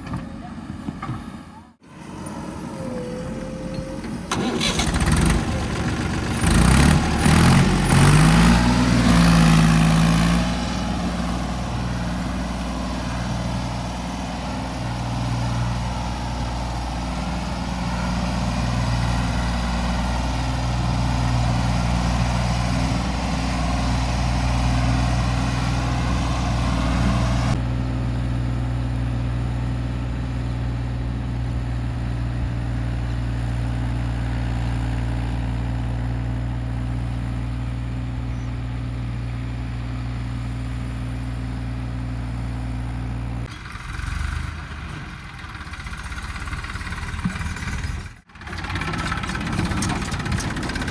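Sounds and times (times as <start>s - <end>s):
diesel engine revving and idling: 0.0s - 50.9s.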